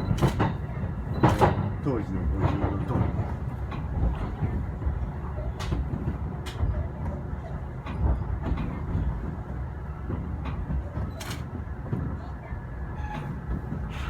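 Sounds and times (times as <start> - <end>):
train rumble from inside car: 0.0 - 14.0
wheels clicking over rail joints: 0.0 - 14.0.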